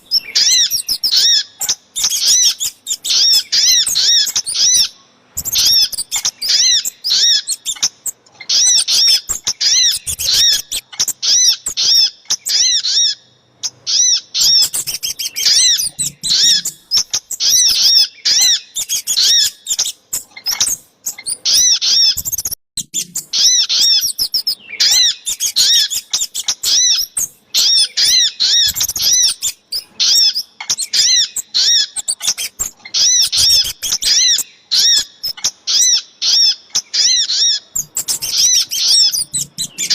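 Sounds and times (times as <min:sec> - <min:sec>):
songbirds rapid high chirping: 0:00.0 - 0:39.9.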